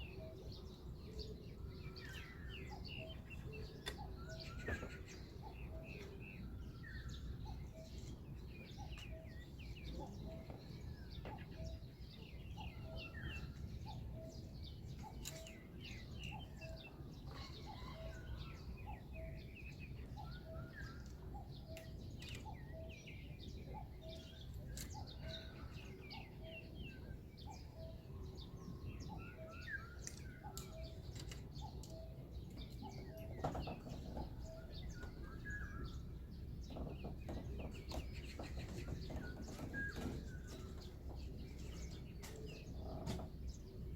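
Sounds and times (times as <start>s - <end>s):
small birds chirping and trilling: 0.0s - 43.9s.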